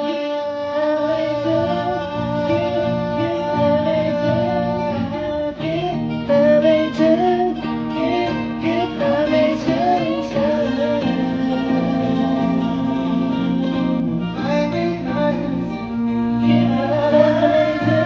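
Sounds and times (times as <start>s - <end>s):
guitar-backed song: 0.0s - 18.0s.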